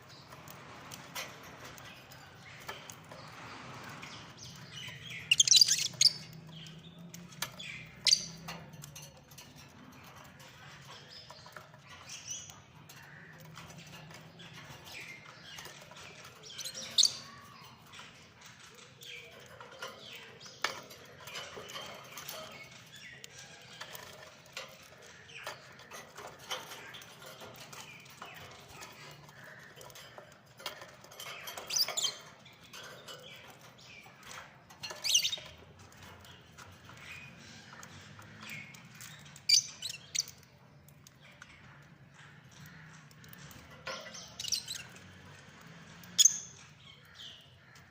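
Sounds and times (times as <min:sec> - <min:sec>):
lovebirds chattering: 0:00.0 - 0:47.9.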